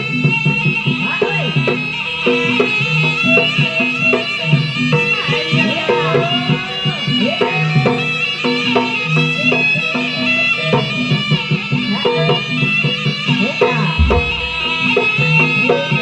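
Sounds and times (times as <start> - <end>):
hand drums: 0.0 - 16.0
reed wind instrument melody: 0.0 - 16.0.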